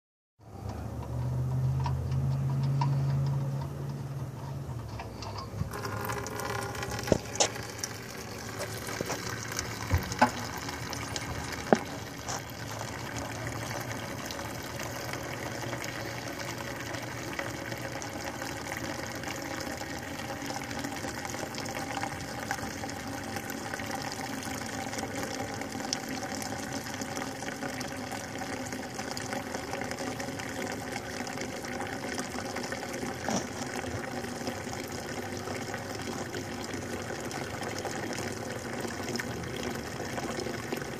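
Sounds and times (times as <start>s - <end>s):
oil pouring from engine: 0.4s - 40.9s.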